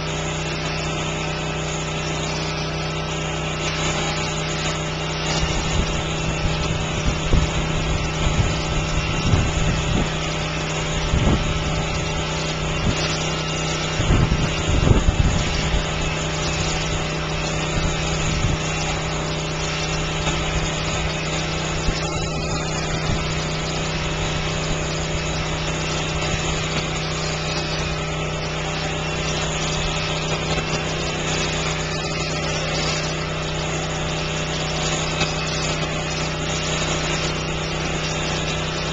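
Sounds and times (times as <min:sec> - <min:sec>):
electric shears humming: 0:00.0 - 0:38.9.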